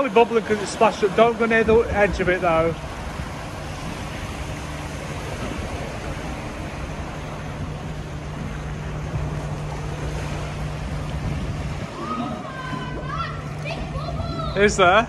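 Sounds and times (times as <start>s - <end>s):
low hum: 0.0s - 15.0s
pool water sloshing and splashing: 0.0s - 15.0s
wind buffeting microphone: 0.0s - 15.0s.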